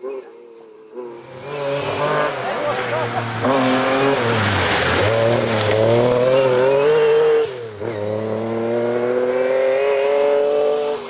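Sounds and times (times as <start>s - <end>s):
rally car engine revving: 1.0s - 11.0s.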